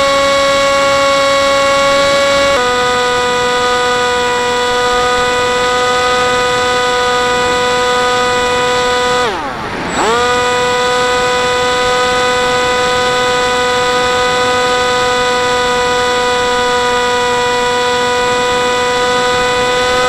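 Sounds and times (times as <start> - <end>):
electric motor and propeller whining: 0.0 - 20.0.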